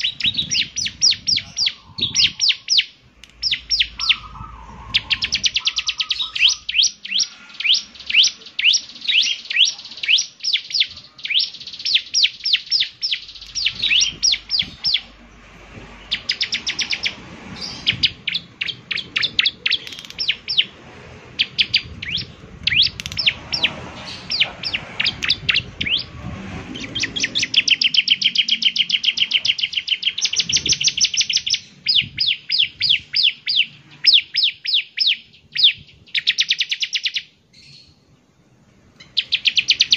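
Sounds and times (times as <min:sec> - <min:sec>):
bird singing high chip notes: 0:00.0 - 0:38.0, 0:39.0 - 0:39.9.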